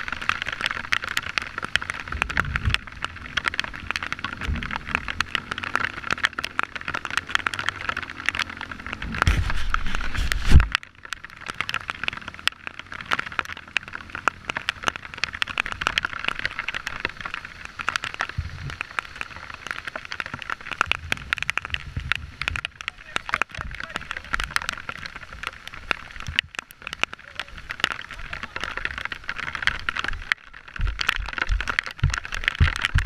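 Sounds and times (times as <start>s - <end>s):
dirt bike engine crackle: 0.0s - 33.0s.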